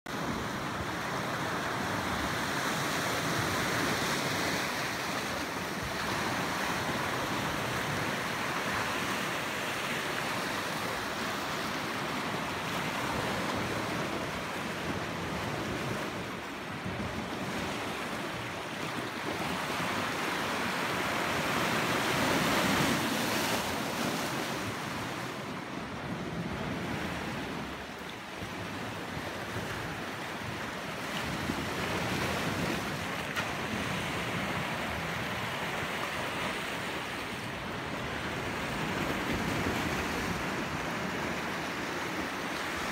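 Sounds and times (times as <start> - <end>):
surf washing against rocks: 0.1 - 42.9.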